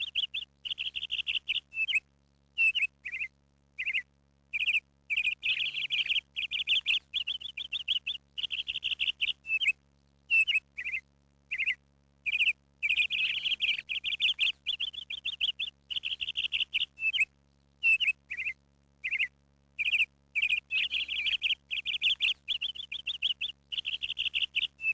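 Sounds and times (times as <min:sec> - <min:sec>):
birds chirping in trills: 0:00.0 - 0:24.9.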